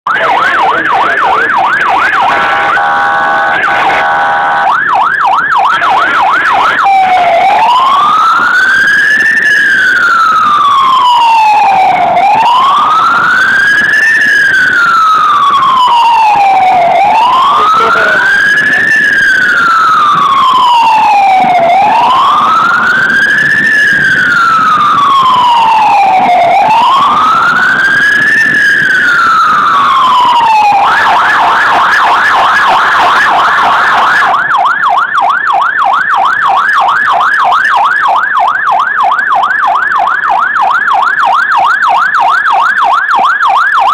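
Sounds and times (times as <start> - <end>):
ambulance siren: 0.1 - 43.9.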